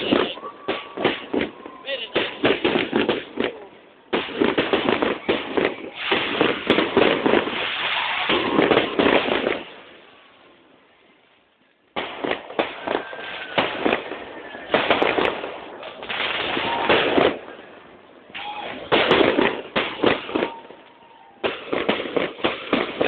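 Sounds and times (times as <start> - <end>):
fireworks bangs and crackling: 0.0 - 10.9, 11.9 - 23.0.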